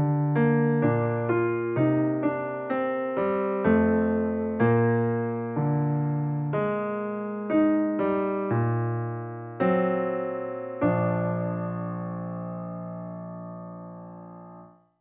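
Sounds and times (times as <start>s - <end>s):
piano chords ringing: 0.0s - 15.0s.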